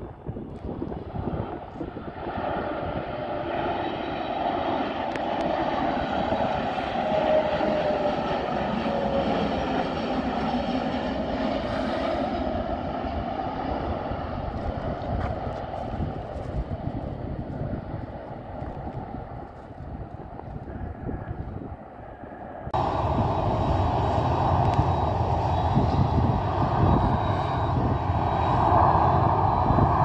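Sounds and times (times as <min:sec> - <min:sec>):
jet airliner landing: 0:00.0 - 0:30.0
jet engine whine: 0:00.0 - 0:30.0.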